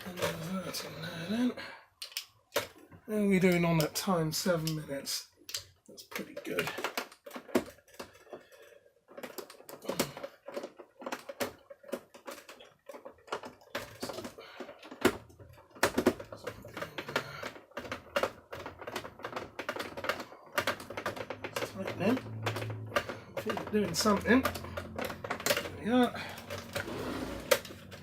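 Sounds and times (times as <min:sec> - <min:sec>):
clicks and knocks of parts handled: 0:01.9 - 0:28.0.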